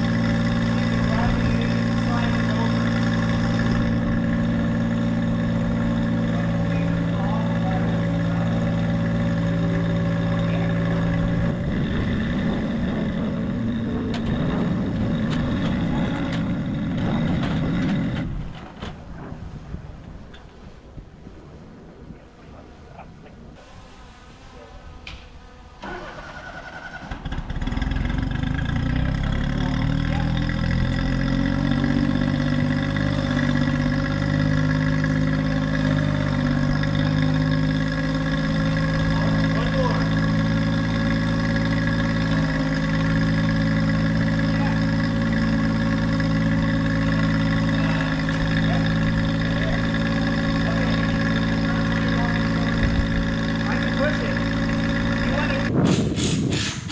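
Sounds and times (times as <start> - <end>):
heavy equipment engine running: 0.0 - 21.7, 23.4 - 56.9.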